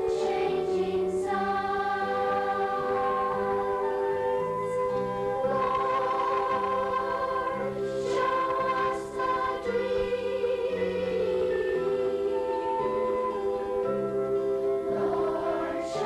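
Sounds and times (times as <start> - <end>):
youth choir singing: 0.0 - 14.1, 14.8 - 16.0.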